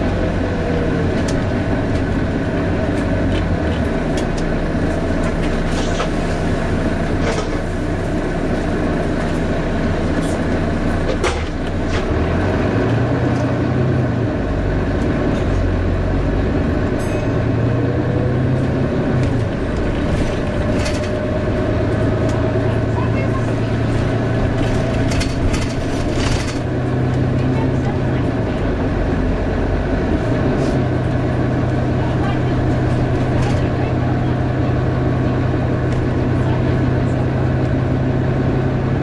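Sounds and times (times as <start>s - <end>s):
bus engine and cooling fan whine: 0.0s - 39.0s
rattles and clicks from bus body: 0.0s - 39.0s.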